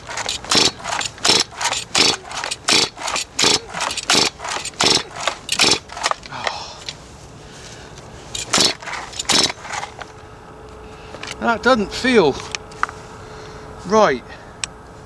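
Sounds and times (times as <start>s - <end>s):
chainsaw starter cord yanks: 0.0s - 13.0s
engine turning over: 0.0s - 13.8s.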